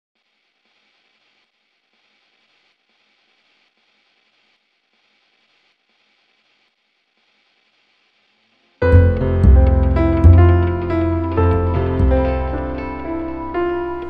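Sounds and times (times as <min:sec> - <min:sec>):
faint steady hiss: 0:00.2 - 0:14.0.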